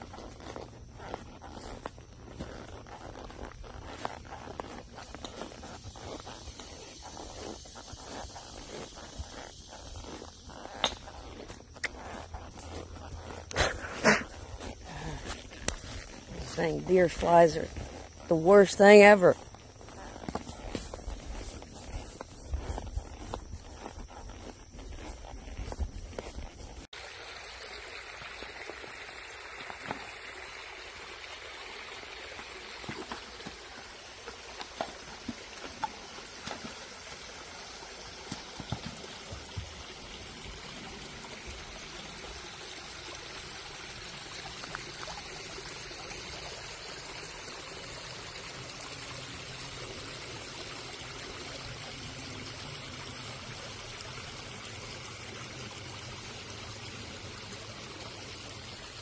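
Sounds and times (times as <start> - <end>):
creek trickling: 0.0 - 59.0.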